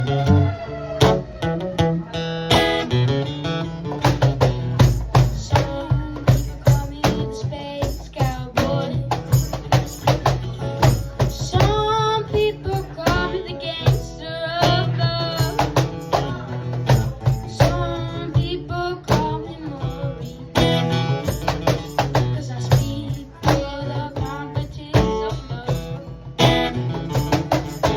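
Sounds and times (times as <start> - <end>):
guitar music with bass and beat: 0.0 - 27.9.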